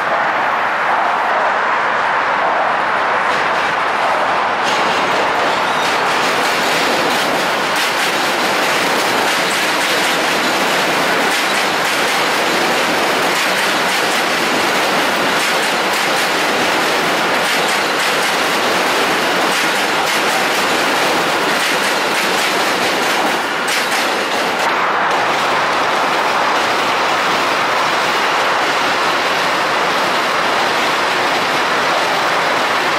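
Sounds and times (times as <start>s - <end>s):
train wheels rushing on rails: 0.0s - 32.9s
wheels clacking over rail joints: 3.2s - 32.9s.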